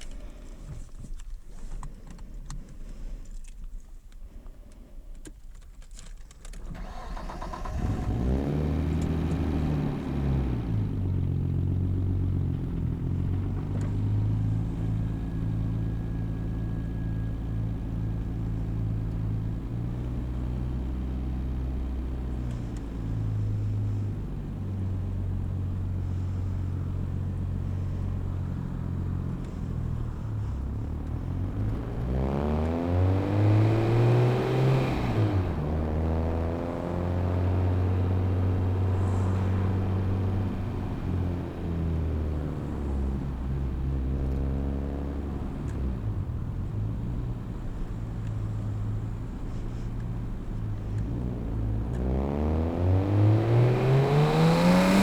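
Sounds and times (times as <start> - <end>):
car engine accelerating through gears: 6.7 - 55.0.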